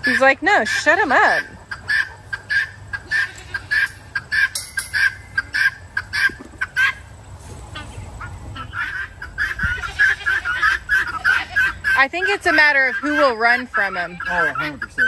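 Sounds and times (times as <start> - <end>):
poultry calling harshly: 0.0 - 15.0.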